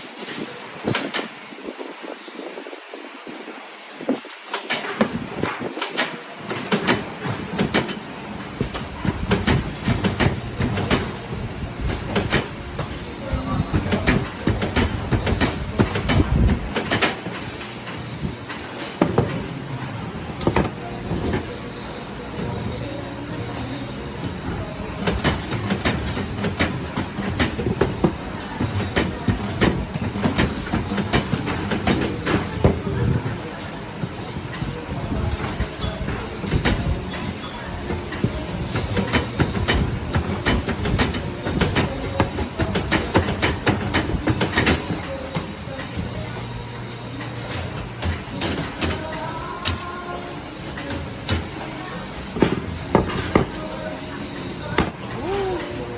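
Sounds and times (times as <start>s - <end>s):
steady mechanical noise: 0.0s - 55.9s.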